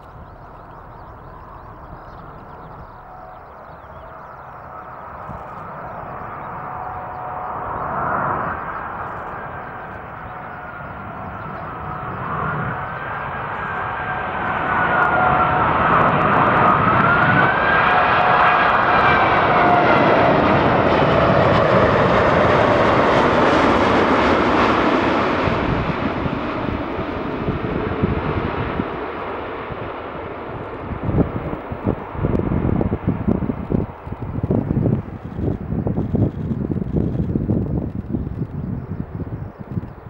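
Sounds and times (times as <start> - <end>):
jet airliner flying past: 0.0 - 40.0.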